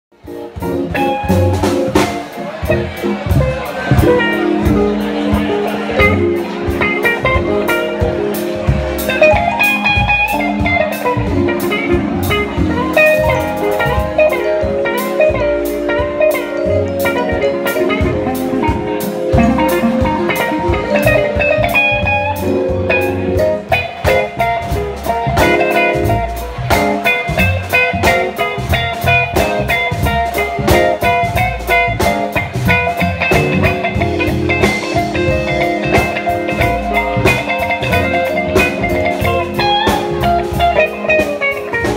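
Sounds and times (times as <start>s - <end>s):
bass guitar: 0.1s - 41.9s
drum kit: 0.1s - 41.9s
electric guitar solo: 0.3s - 41.9s.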